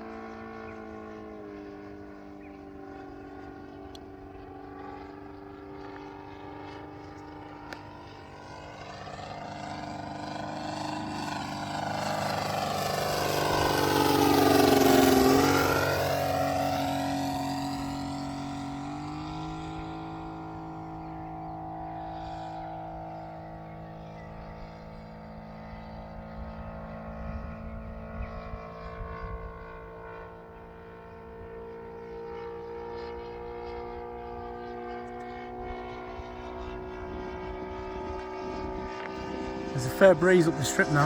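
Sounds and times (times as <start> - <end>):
model plane engine drone: 0.0 - 41.0.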